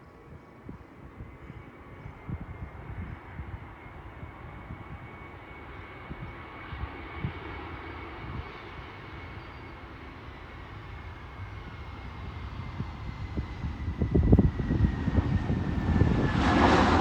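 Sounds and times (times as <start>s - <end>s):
distant airliner engines running: 0.1s - 17.0s.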